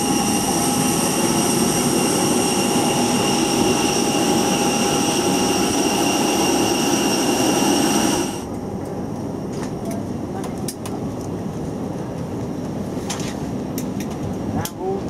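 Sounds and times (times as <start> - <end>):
jet turbine whine: 0.0 - 14.6.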